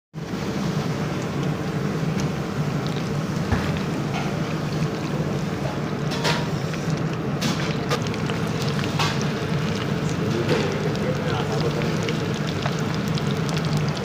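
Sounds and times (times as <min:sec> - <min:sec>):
low mechanical rumble: 0:00.2 - 0:14.0.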